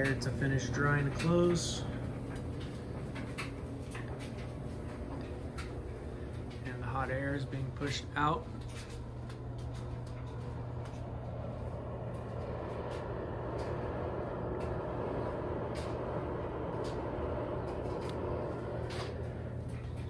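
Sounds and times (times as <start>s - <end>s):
exhaust air rushing from dryer vent: 0.0s - 20.0s
low steady hum: 0.0s - 20.0s.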